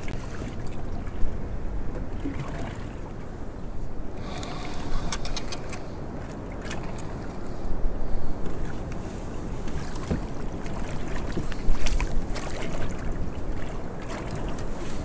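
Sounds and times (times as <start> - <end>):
water sloshing against hull: 0.0 - 15.0
wind buffeting microphone: 0.0 - 15.0.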